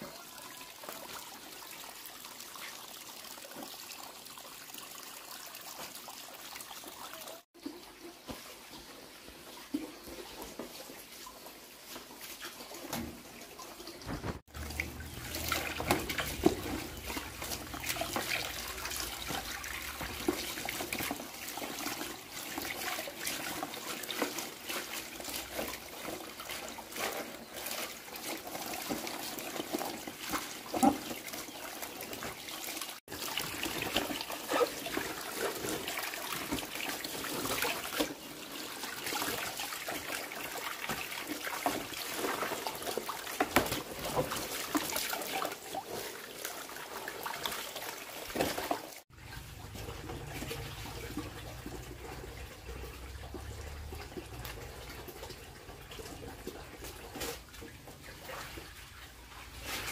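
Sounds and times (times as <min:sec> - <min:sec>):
water splashing into basin: 0:09.5 - 0:59.9.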